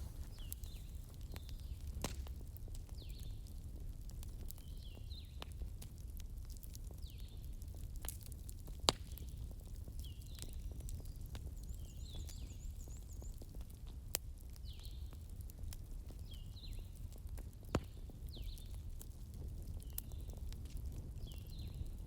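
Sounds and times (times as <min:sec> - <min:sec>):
campfire crackling: 0:00.0 - 0:22.0
sharp pops from fire: 0:00.0 - 0:22.0.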